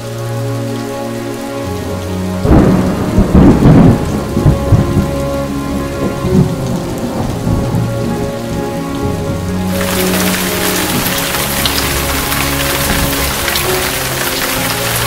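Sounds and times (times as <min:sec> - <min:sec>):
steady rain: 0:00.0 - 0:15.0
thunder rumbling: 0:02.3 - 0:15.0.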